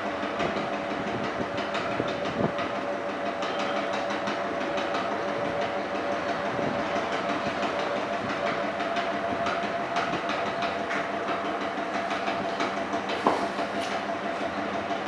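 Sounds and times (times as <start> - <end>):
potter's wheel humming: 0.0 - 15.0.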